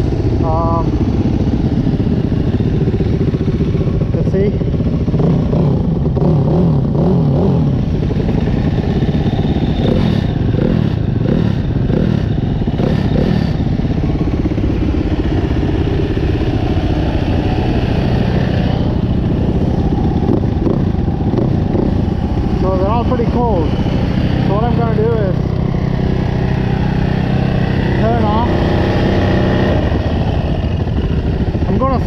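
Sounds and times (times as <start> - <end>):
dirt bike engines idling: 0.0 - 32.0.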